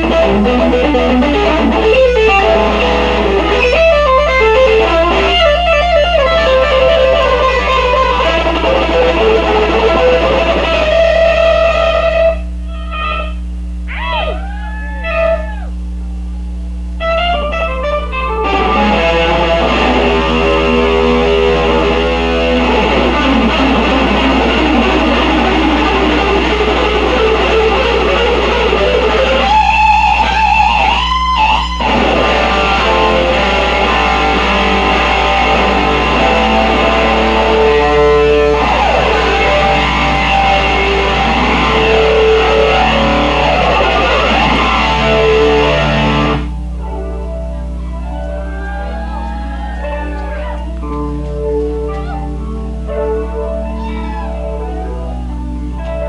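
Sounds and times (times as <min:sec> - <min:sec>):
electric guitar solo: 0:00.0 - 0:15.9, 0:16.7 - 0:56.0
low amplifier hum: 0:00.0 - 0:56.0.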